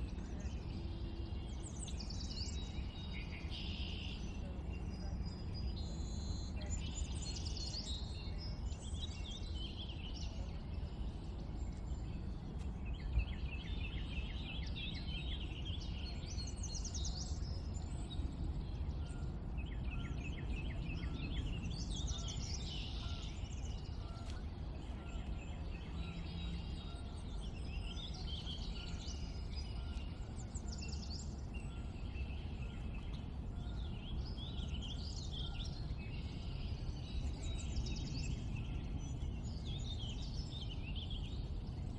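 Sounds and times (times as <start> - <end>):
birds chirping and singing: 0.0 - 41.9.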